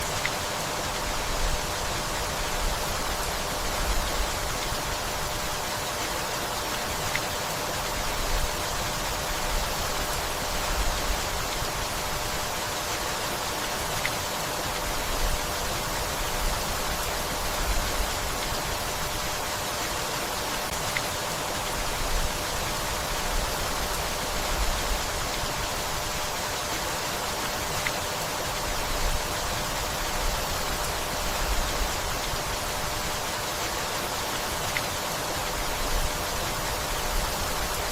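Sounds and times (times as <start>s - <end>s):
gentle rainfall hiss: 0.0s - 37.9s.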